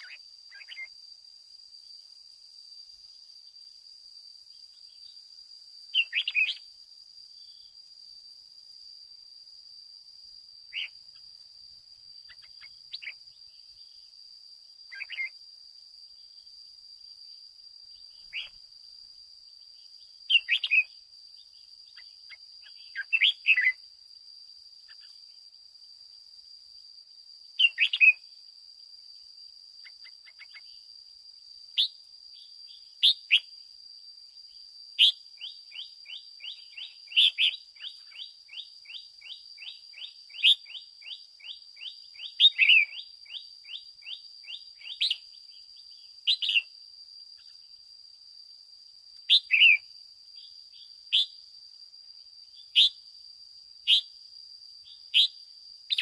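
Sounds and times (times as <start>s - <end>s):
faint high-pitched hum: 0.0s - 56.0s.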